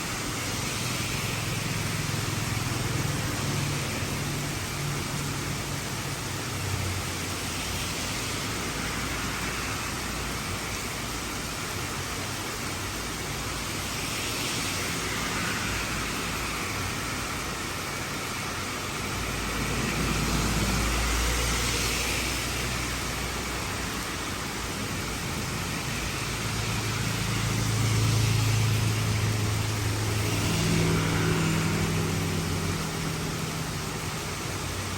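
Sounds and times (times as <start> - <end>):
heavy rain falling: 0.0 - 34.9
vehicles passing: 0.0 - 34.9.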